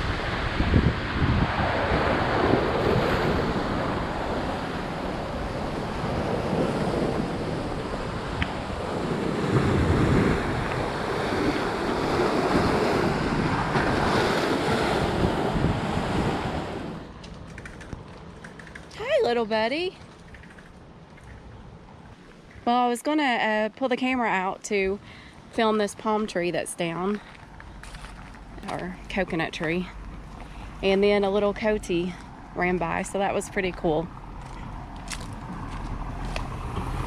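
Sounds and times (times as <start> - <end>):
wind buffeting microphone: 0.0 - 22.7, 27.1 - 37.0
wind: 0.0 - 37.0.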